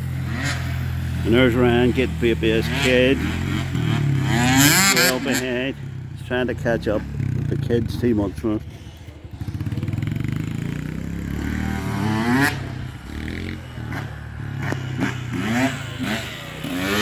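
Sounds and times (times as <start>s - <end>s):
engine revving: 0.0s - 17.0s
off-road bike engines running: 0.0s - 17.0s.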